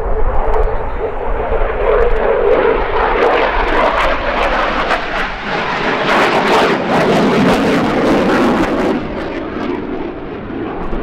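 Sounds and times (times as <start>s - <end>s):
fighter jet flying: 0.0s - 11.0s.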